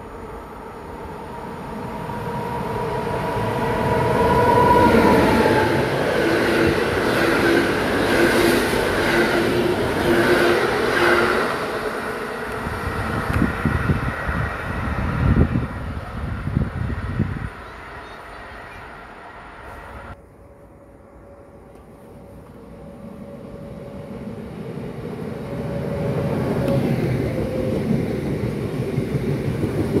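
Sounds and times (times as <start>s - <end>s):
passenger train passing: 0.0s - 30.0s.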